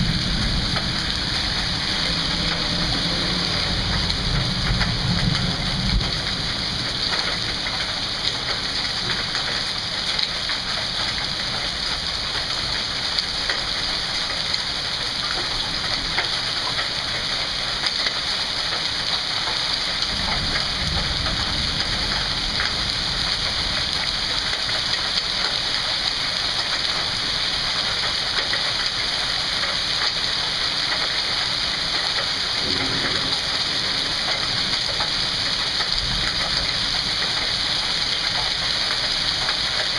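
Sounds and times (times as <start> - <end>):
hailstones ticking: 0.0 - 39.9
rain and hail falling: 0.0 - 39.9.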